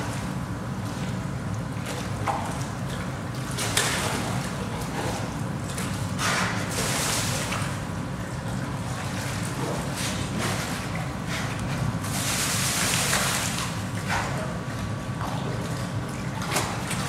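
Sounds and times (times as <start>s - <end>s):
steady low hum: 0.0s - 17.0s
water splashing and sloshing: 0.0s - 17.0s.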